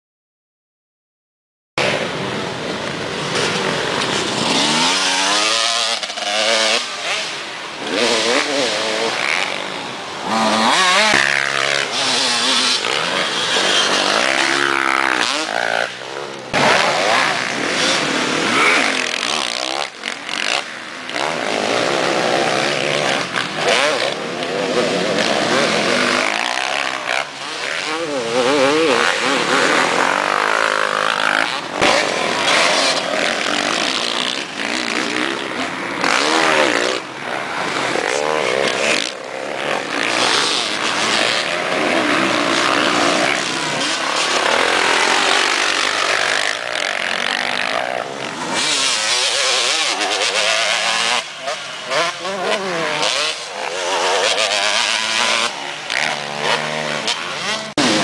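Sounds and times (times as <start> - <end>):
dirt bike engine revving: 1.8 - 58.0.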